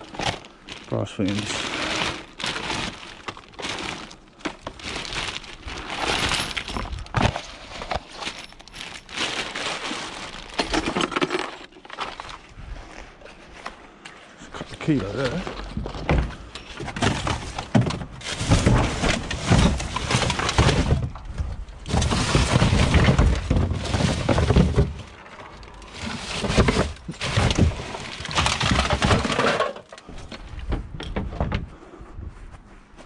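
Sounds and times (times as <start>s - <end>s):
hard objects clattering and crashing: 0.0s - 12.4s, 15.0s - 31.6s.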